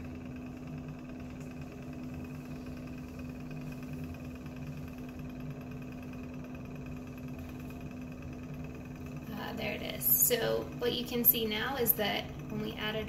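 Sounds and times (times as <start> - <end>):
lab equipment humming: 0.0 - 13.0.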